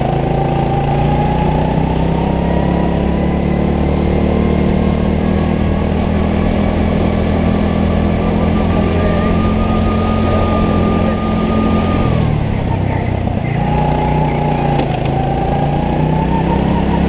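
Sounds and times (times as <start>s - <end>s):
go-kart engine at high revs: 0.0s - 17.0s.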